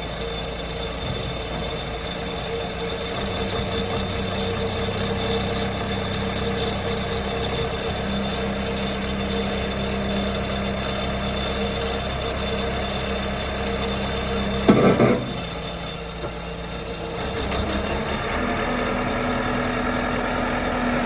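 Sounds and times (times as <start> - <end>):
diesel engine running steadily: 0.0 - 21.0.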